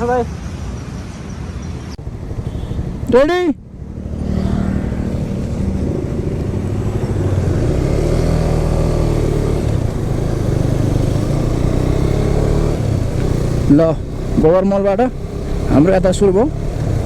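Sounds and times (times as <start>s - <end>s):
motorcycle engine accelerating: 2.0s - 17.0s.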